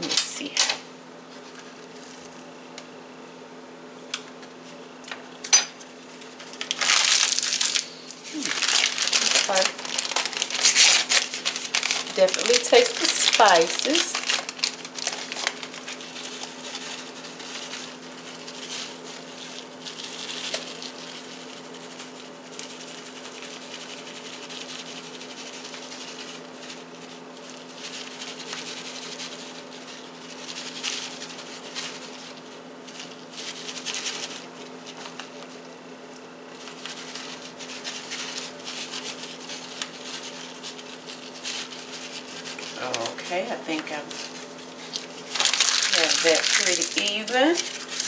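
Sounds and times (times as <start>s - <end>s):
steady low hum: 0.0s - 48.0s
oatmeal rustling and scratching: 1.2s - 2.6s, 5.8s - 48.0s.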